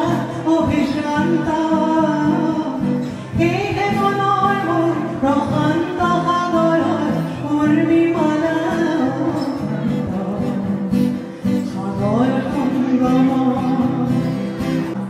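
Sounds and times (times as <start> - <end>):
acoustic guitar: 0.0 - 15.0
woman singing into a microphone: 0.0 - 15.0.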